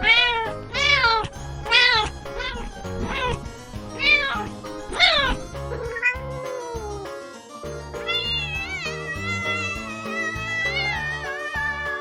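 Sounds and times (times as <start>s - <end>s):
cat meowing: 0.0s - 3.4s, 4.0s - 7.1s, 8.0s - 12.0s
background music with steady beat: 0.0s - 12.0s.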